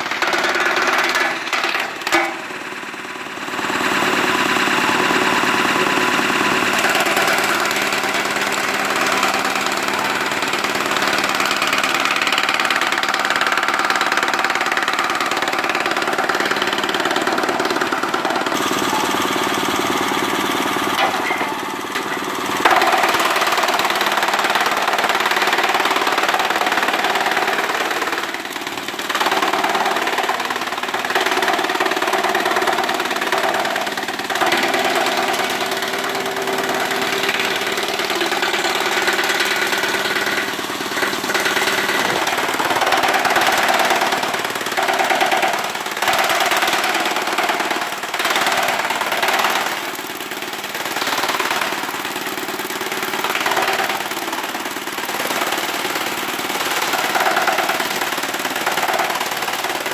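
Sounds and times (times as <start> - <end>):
frond shredder chattering: 0.8 - 59.9.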